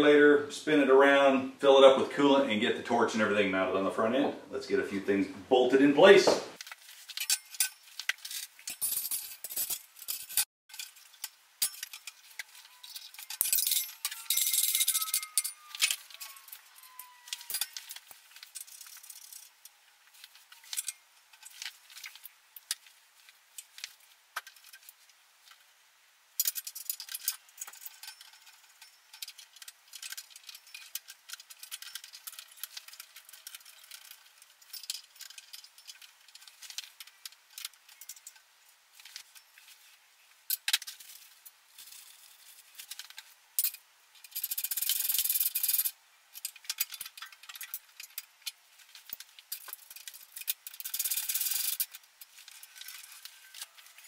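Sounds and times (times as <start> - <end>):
metal parts and tools clinking: 6.6 - 25.6, 26.4 - 39.9, 40.5 - 54.0.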